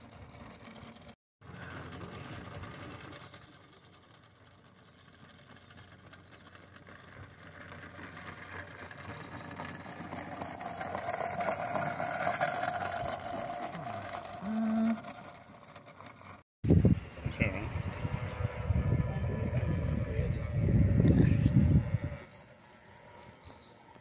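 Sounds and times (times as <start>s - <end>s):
miniature locomotive passing: 0.0s - 24.0s.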